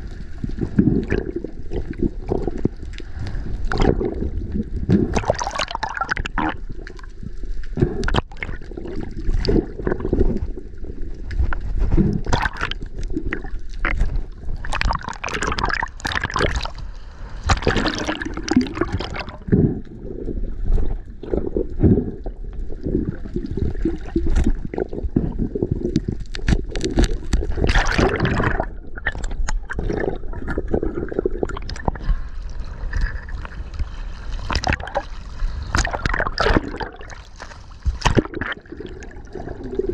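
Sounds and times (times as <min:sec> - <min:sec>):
water sloshing and gurgling: 0:00.0 - 0:39.9
water splashing: 0:00.0 - 0:39.9.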